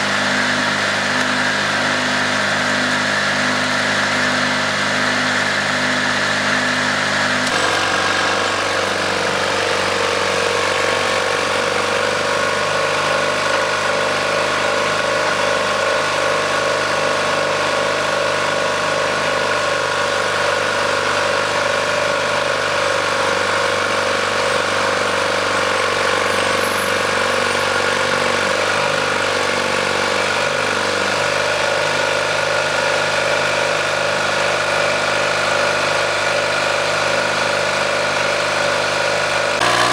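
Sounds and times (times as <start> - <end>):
dozer engine running: 0.0 - 39.9.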